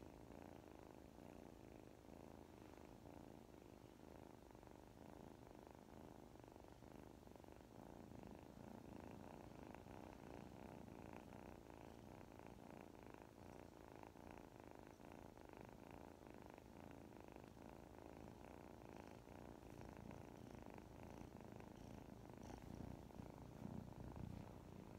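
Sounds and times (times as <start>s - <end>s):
kitten purring: 0.0s - 24.9s.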